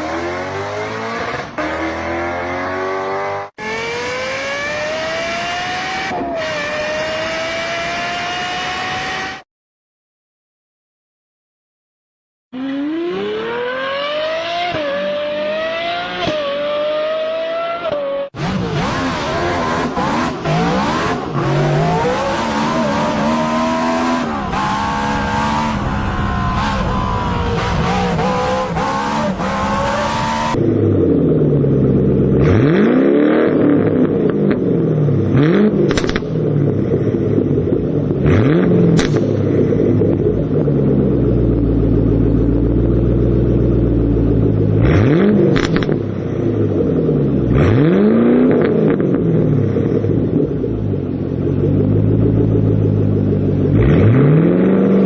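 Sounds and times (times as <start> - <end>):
car engines revving: 0.0 - 9.4, 12.6 - 55.0.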